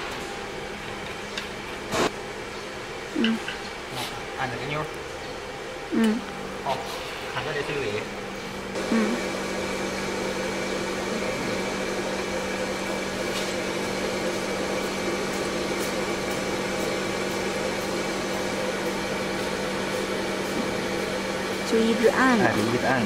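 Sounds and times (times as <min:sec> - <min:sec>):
water pump humming: 0:00.0 - 0:23.0.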